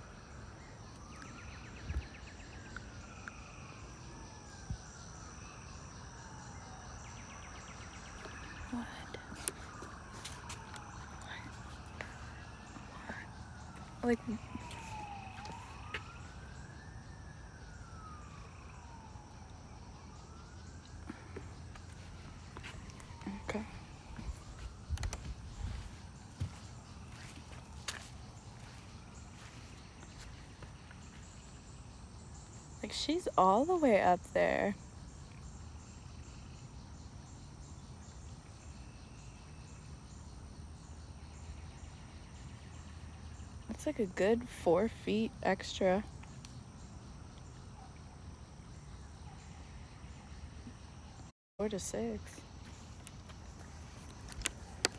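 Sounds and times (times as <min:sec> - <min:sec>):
faint emergency siren wailing: 0:00.0 - 0:51.3, 0:52.0 - 0:54.9
insects chirping: 0:00.0 - 0:54.9.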